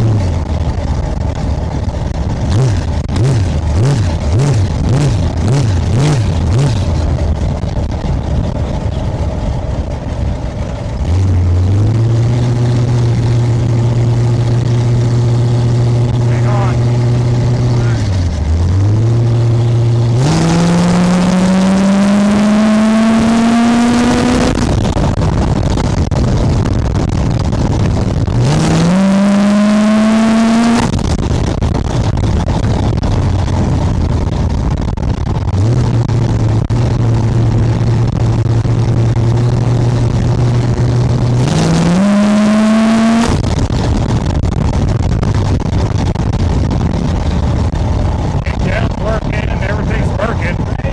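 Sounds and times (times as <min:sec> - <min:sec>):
engine revving: 0:00.0 - 0:00.7, 0:02.2 - 0:08.1, 0:10.8 - 0:25.4, 0:26.0 - 0:31.4, 0:35.1 - 0:50.9.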